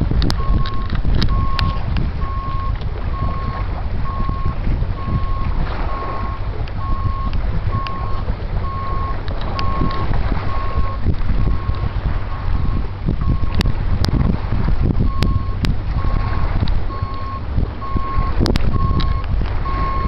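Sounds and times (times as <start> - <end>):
wind rumble on microphone: 0.0 - 20.0
reversing alarm beeping: 0.4 - 13.7, 15.0 - 20.0.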